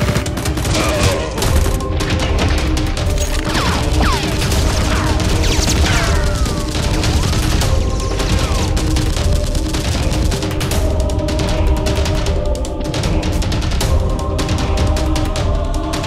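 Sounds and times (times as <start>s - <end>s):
rapid gunfire sound effects: 0.0s - 15.3s
background music: 0.0s - 16.0s.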